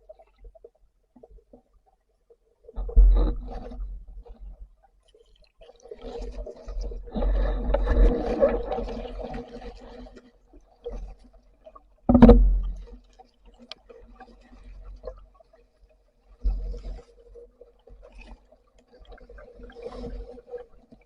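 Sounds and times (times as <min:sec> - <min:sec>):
muffled underwater sloshing: 0:00.0 - 0:21.0.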